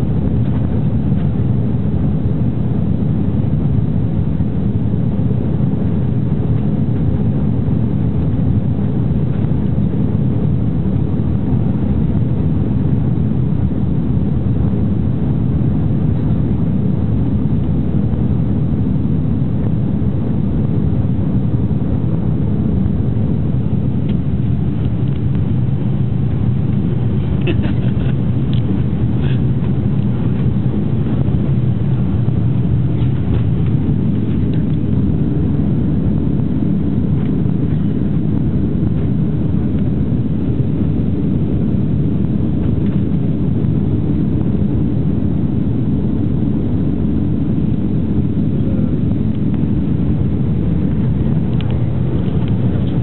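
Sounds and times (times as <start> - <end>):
jet engines roaring: 0.0 - 53.0
rushing airflow: 0.0 - 53.0.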